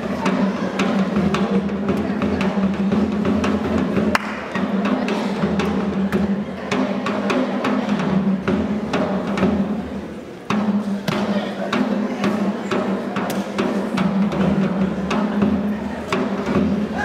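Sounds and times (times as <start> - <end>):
drums in a quick rhythm: 0.0 - 17.0.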